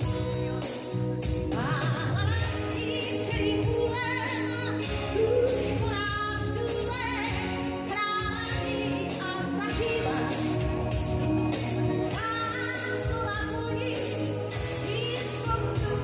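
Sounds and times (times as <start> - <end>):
live pop band: 0.0 - 16.0
woman singing with vibrato: 0.0 - 16.0.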